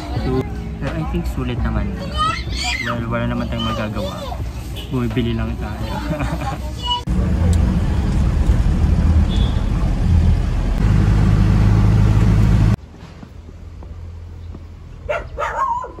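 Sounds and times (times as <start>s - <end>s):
car engine and road noise: 0.0s - 16.0s
quiet outdoor background: 0.0s - 16.0s.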